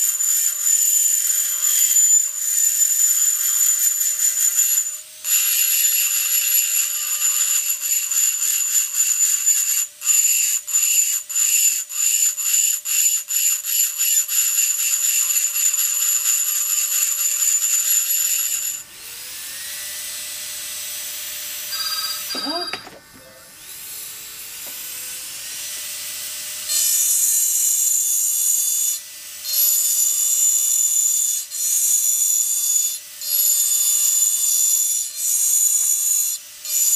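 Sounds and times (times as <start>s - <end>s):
engraving tool grinding glass: 0.0s - 36.9s.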